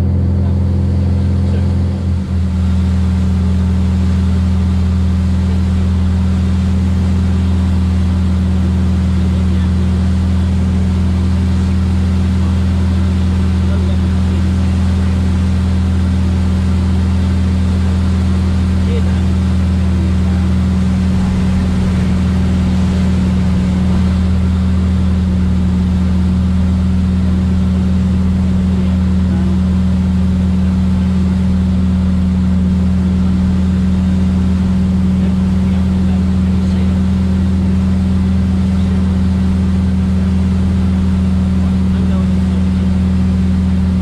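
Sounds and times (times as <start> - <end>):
airplane engine and propeller droning: 0.0 - 44.0.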